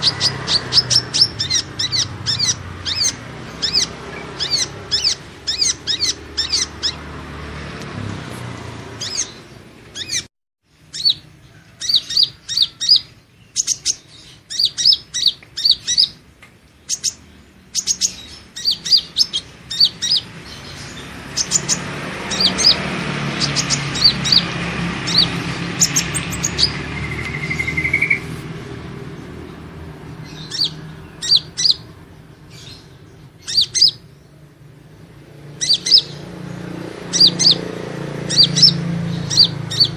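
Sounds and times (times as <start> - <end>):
sunbird chirping: 0.0 - 7.1, 8.9 - 39.9.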